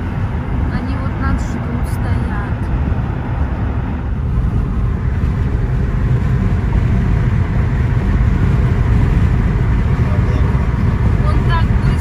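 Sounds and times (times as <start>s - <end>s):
car road noise at highway speed: 0.0s - 12.0s.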